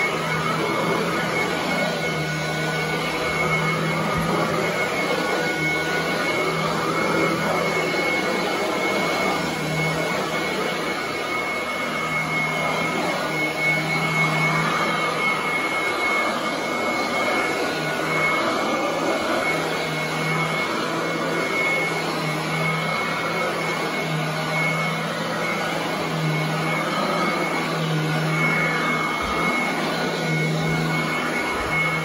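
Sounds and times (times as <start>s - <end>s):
vacuum cleaner whining: 0.0s - 32.0s.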